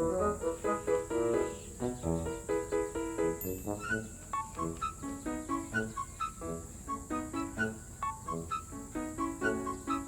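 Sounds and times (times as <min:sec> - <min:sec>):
bouncy background music: 0:00.0 - 0:10.0.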